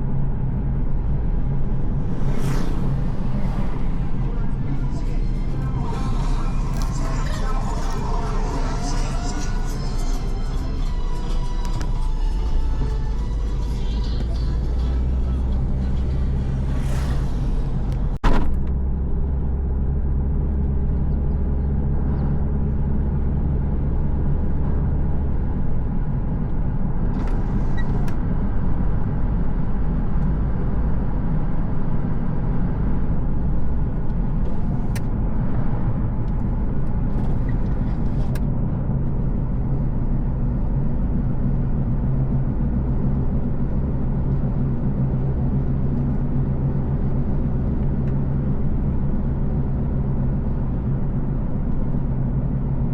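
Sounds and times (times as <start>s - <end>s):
car engine hum and road noise: 0.0s - 52.9s.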